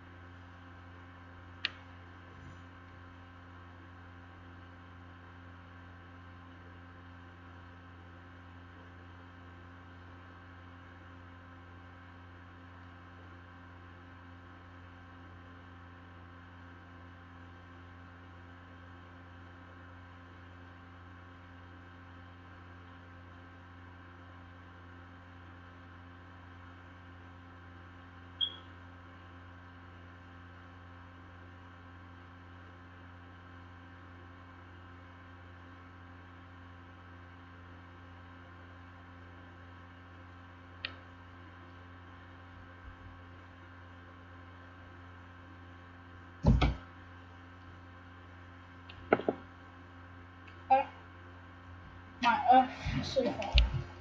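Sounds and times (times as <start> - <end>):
low electrical hum with hiss: 0.0 - 54.0.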